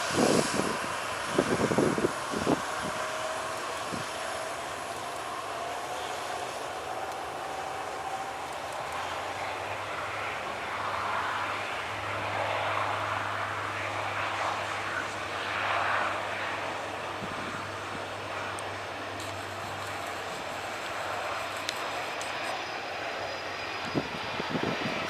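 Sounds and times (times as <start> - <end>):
jet airliner engines rushing: 0.0 - 25.0.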